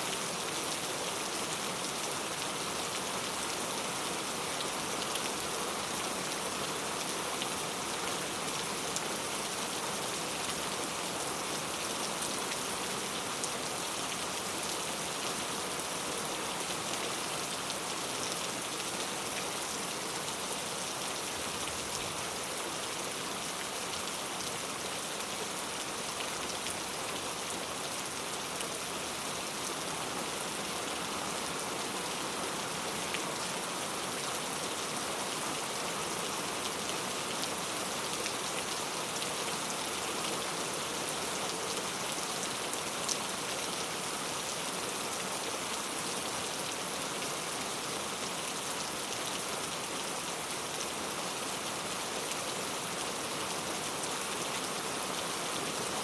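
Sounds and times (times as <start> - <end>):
heavy rain on street: 0.0 - 56.0.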